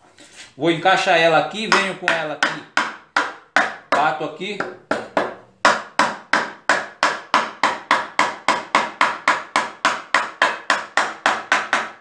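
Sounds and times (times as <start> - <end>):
hammer striking wood: 1.7 - 12.0.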